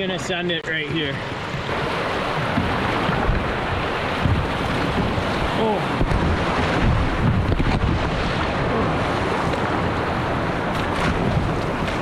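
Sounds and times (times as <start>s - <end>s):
river rapids roaring: 0.8s - 12.0s
wind buffeting microphone: 1.1s - 12.0s.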